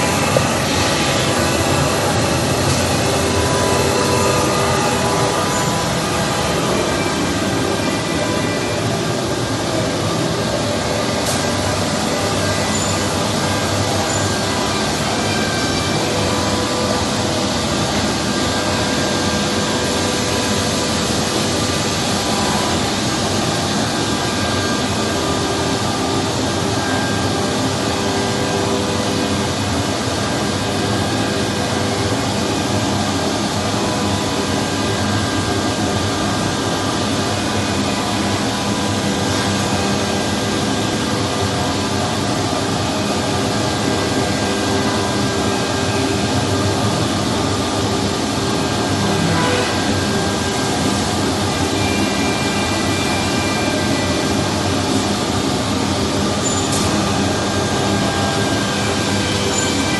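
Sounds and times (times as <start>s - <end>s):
wood machining centre running: 0.0s - 59.9s.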